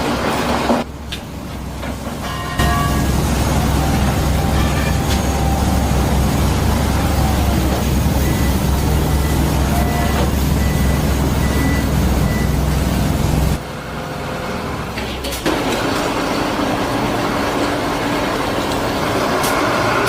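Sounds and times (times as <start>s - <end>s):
heavy machinery engine rumbling: 0.0s - 20.0s.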